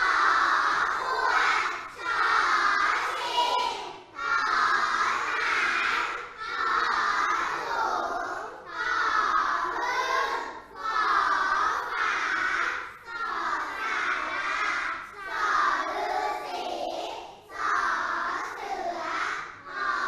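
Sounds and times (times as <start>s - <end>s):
children chanting in unison: 0.0s - 20.0s.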